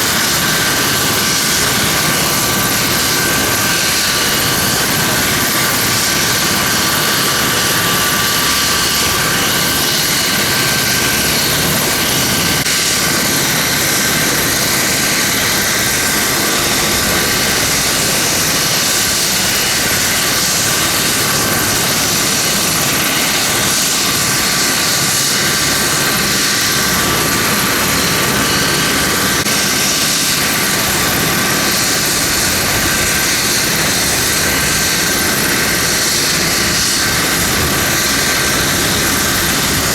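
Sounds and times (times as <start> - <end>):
helicopter rotor and engine noise: 0.0 - 39.9
high turbine whine: 0.0 - 39.9.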